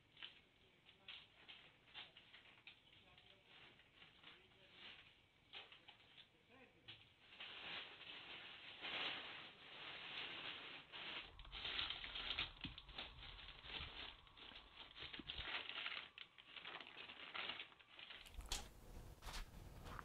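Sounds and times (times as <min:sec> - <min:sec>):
plastic tarpaulin crinkling: 0:00.0 - 0:20.0.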